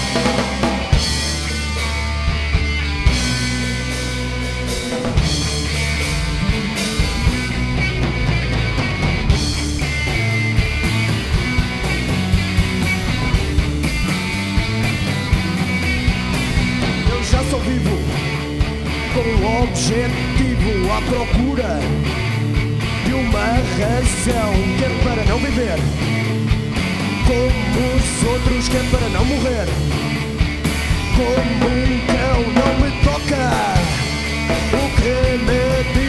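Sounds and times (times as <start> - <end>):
punk rock band playing live: 0.0 - 36.0.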